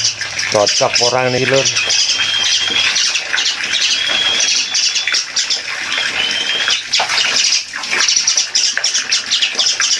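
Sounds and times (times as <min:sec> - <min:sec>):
starling squawking and chirping: 0:00.0 - 0:09.9
water splashing: 0:00.0 - 0:09.9.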